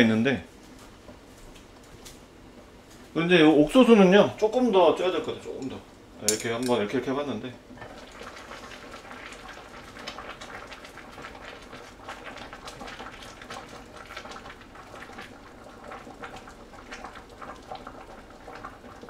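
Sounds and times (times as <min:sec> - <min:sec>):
water boiling hard: 0:03.7 - 0:19.0.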